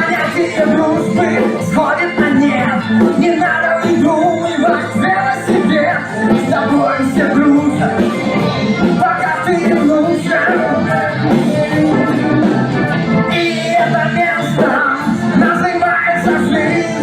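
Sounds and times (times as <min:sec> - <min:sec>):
electric guitar: 0:00.0 - 0:17.0
person singing: 0:00.0 - 0:17.0
rock band playing: 0:00.0 - 0:17.0.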